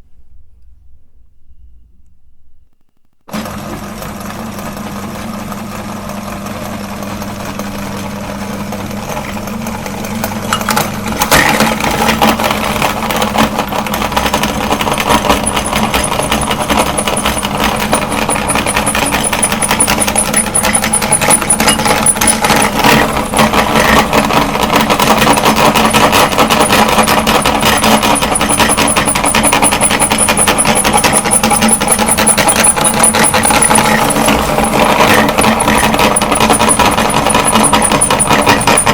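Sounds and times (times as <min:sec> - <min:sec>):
meat grinder motor humming: 0:03.3 - 0:38.9
rattling and crunching in grinder: 0:03.3 - 0:38.9.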